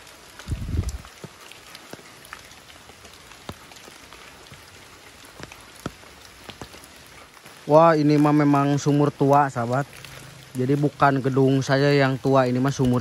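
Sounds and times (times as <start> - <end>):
light rain hiss: 0.0 - 13.0
water drops dripping: 0.0 - 13.0.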